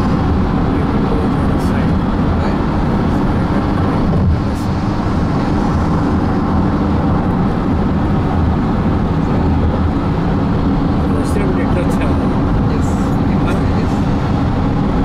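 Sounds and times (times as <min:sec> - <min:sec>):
road and engine noise in car: 0:00.0 - 0:15.0.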